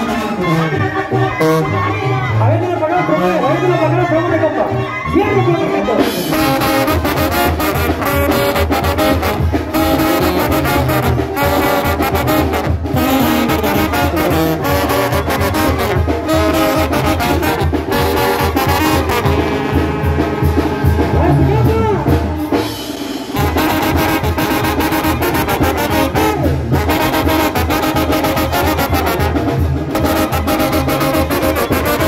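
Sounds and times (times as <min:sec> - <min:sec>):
trombones playing melody: 0:00.0 - 0:03.4, 0:05.0 - 0:32.0
sousaphone bass line: 0:00.0 - 0:32.0
drum strikes: 0:06.2 - 0:32.0.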